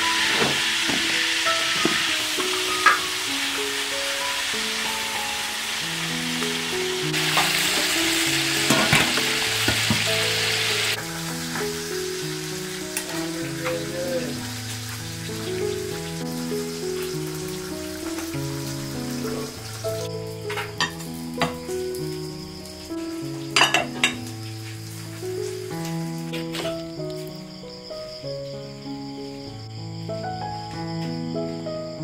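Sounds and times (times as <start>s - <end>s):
fish sizzling in hot oil: 0.0s - 27.3s
background music melody: 0.0s - 32.0s.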